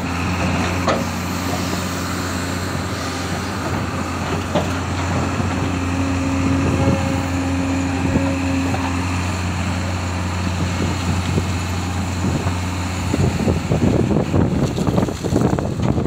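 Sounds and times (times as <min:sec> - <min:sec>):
diesel excavator engine running: 0:00.0 - 0:16.0
held whine: 0:00.0 - 0:16.0.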